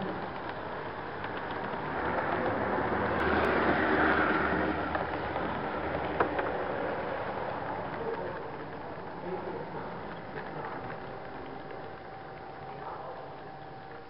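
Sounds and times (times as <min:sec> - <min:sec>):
model train wheels rumbling on rails: 0:00.0 - 0:14.0.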